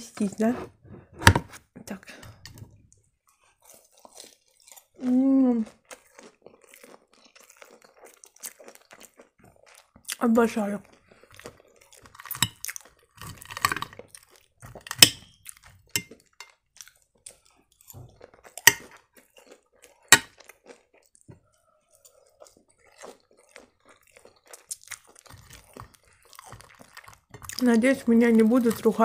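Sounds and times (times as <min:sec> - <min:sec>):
person chewing: 0:02.2 - 0:29.0.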